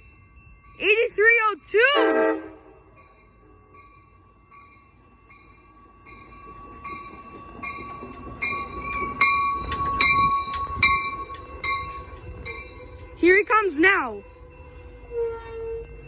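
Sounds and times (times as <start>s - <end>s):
low rumble of train: 0.0s - 16.0s
train bell ringing: 0.0s - 16.0s.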